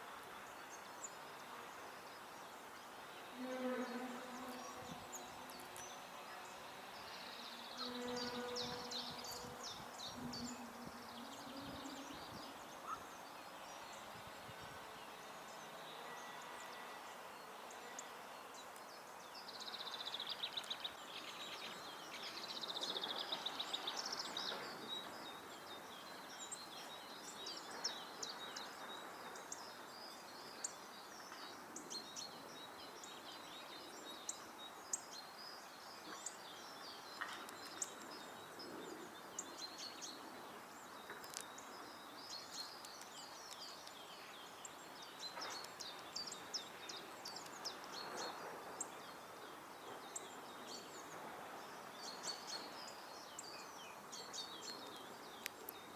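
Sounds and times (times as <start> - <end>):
outdoor background noise: 0.0 - 55.9
songbirds chirping: 0.0 - 55.9.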